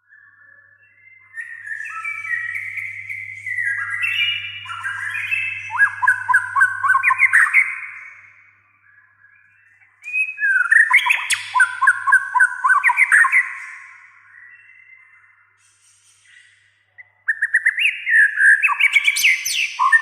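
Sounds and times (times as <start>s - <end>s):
bird singing whistled notes: 0.0s - 20.0s.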